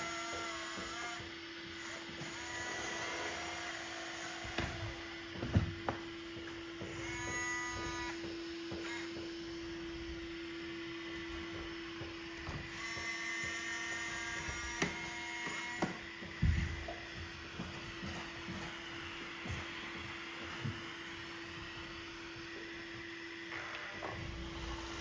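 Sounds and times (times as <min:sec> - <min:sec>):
robot vacuum motor whine: 0:00.0 - 0:25.0.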